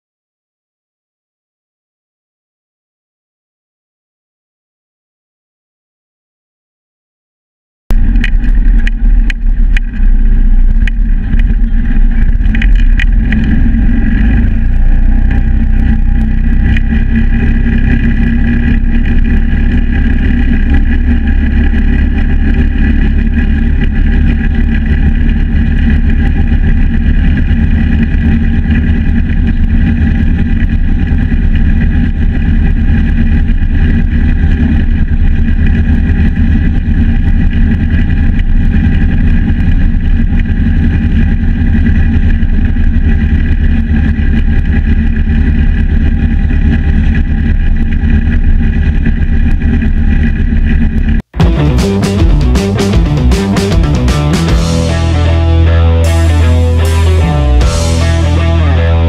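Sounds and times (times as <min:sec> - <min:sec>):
golf cart engine drone: 0:07.9 - 0:59.0.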